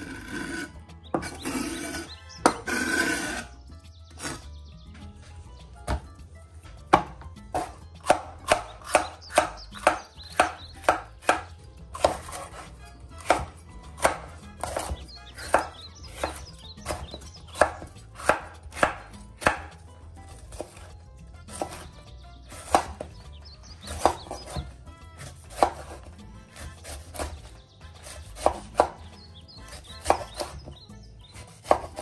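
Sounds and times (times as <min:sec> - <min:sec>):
knife chopping on cutting board: 0:00.0 - 0:03.4, 0:05.8 - 0:06.1, 0:06.7 - 0:32.0.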